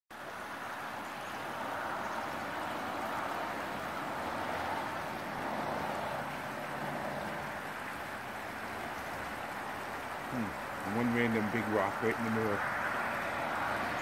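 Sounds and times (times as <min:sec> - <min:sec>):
river rushing over rapids: 0:00.1 - 0:14.0.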